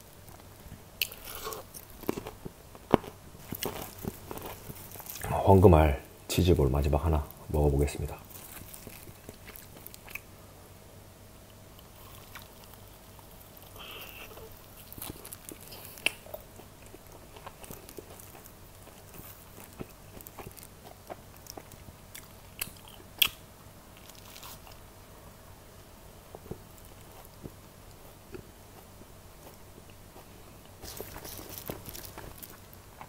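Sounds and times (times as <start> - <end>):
biting and chewing food: 0.3 - 5.4, 8.2 - 10.3, 11.7 - 24.9, 26.3 - 33.0.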